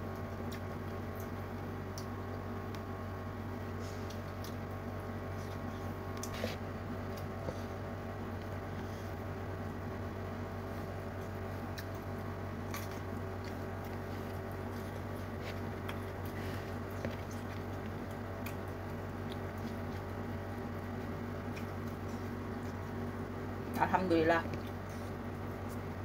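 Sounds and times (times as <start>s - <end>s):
person chewing food: 0.2s - 23.6s, 24.5s - 26.0s.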